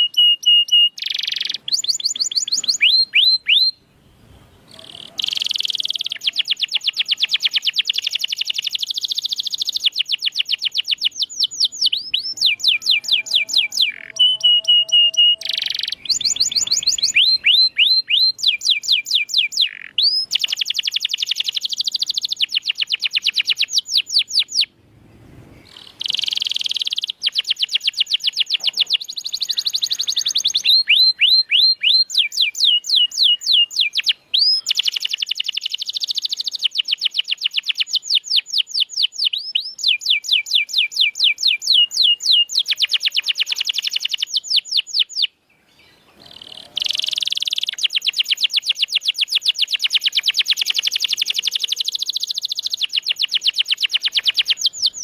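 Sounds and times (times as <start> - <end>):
canary singing: 0.0 - 24.8, 25.5 - 55.0.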